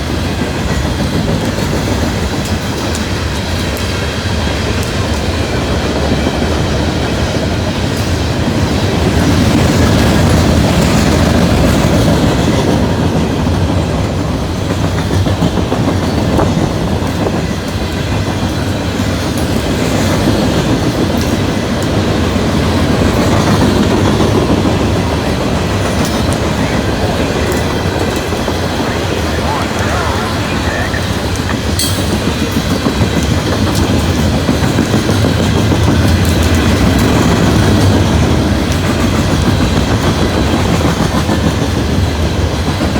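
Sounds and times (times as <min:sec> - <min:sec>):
train wheels rumbling and clattering: 0:00.0 - 0:30.0, 0:30.7 - 0:42.9.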